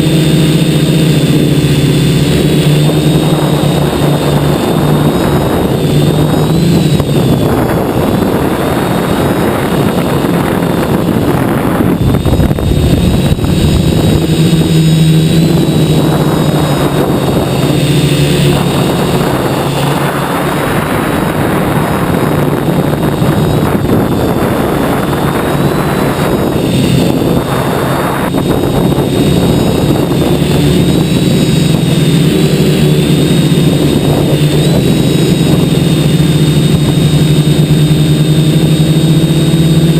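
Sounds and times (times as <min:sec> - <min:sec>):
drone motors buzzing: 0:00.0 - 0:39.9
wind noise on microphone: 0:00.0 - 0:39.9.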